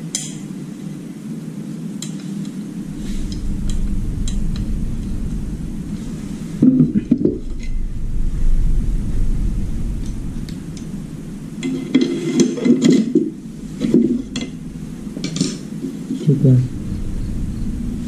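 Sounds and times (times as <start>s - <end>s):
low handling rumble: 1.8s - 18.0s.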